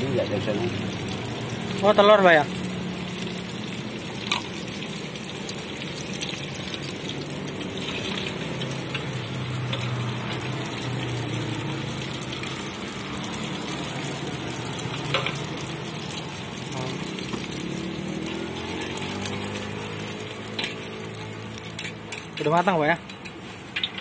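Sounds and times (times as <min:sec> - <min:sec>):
fish cakes sizzling in oil: 0:00.0 - 0:24.0.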